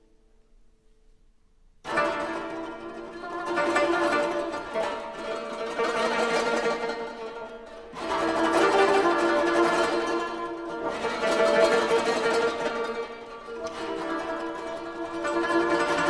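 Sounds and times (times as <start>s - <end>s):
koto plucked notes: 1.9s - 16.0s.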